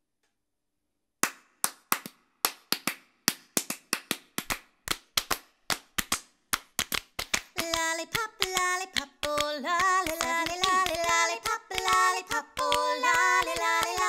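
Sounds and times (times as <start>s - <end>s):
hands clapping rhythm: 1.2s - 14.0s.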